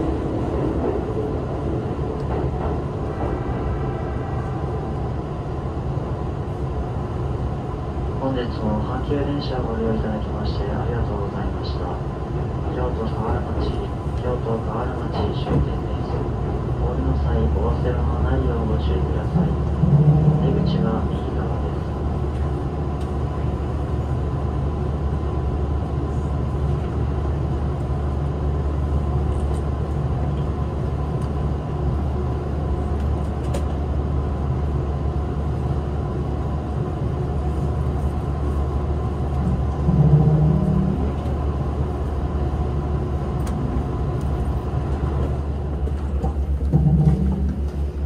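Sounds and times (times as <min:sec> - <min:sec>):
train cabin rumble: 0:00.0 - 0:48.0.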